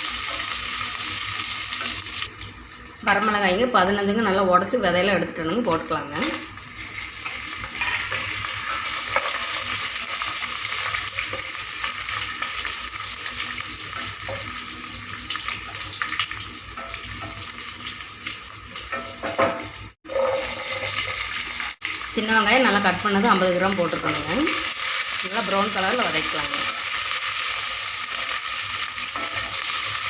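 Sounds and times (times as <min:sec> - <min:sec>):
spices sizzling in hot oil: 0:00.0 - 0:30.0.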